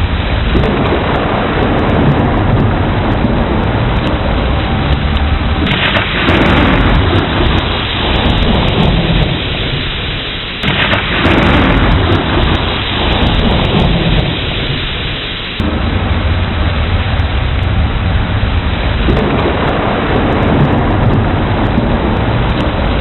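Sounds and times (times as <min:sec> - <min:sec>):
heavy rain: 0:00.0 - 0:23.0
thunder rumbling: 0:00.0 - 0:23.0.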